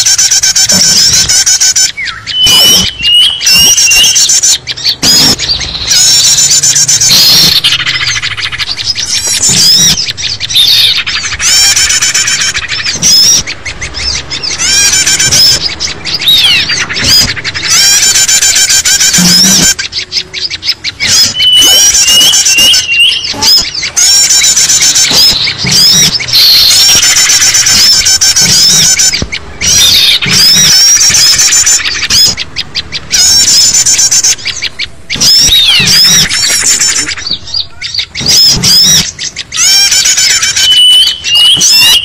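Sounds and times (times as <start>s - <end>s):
songbirds trilling and chirping: 0.0s - 42.0s.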